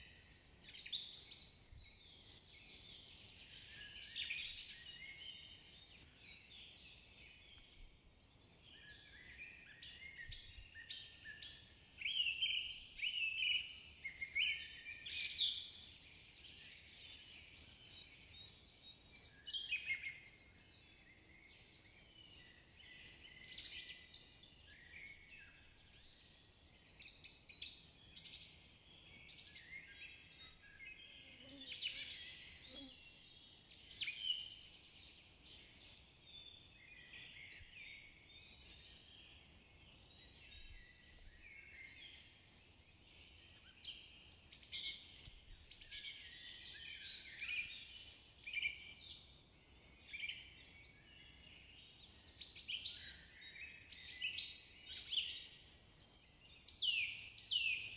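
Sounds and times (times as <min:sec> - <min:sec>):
birds chirping and singing: 0:00.1 - 0:57.9.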